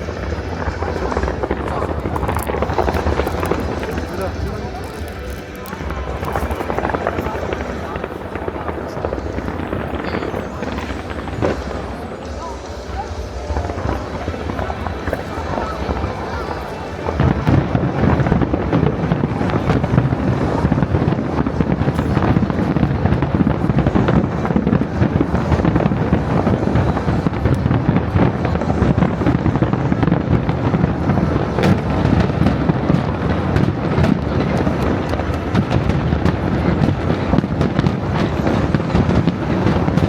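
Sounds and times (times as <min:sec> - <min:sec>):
fireworks bursts and crackles: 0:00.0 - 0:40.0.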